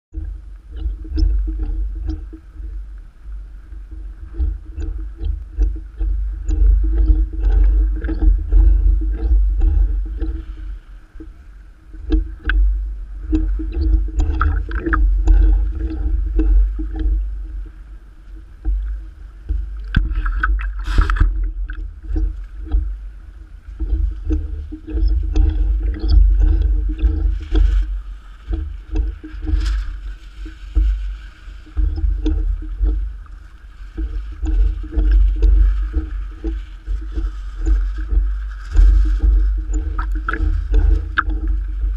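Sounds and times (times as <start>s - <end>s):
faint steady hum: 0.1s - 41.9s
small splashes and drips: 0.1s - 41.9s
water slapping and splashing: 0.1s - 41.9s.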